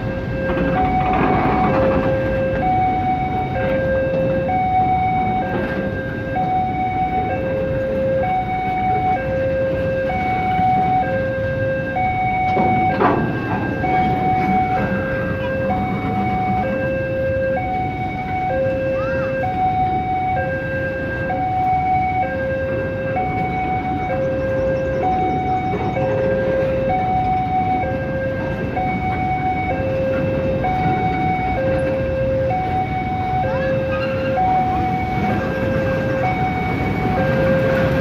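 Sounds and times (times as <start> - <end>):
road traffic noise: 0.0 - 38.0
two-tone warning siren: 0.0 - 38.0.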